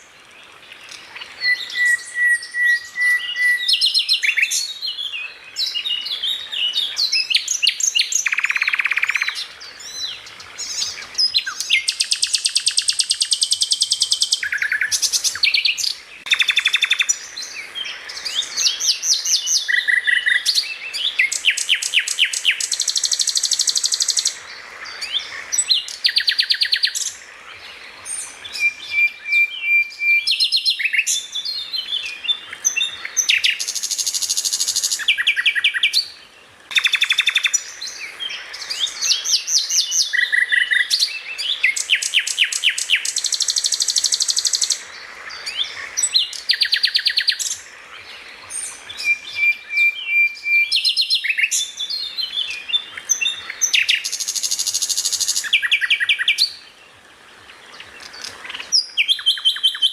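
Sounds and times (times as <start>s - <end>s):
songbird chirping and trilling: 0.0s - 59.9s.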